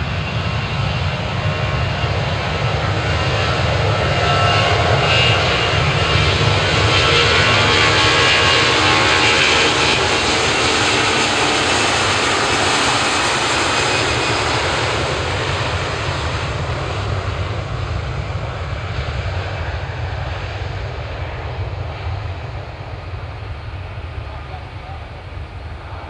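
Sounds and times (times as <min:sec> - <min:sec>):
airliner engines passing: 0:00.0 - 0:26.0.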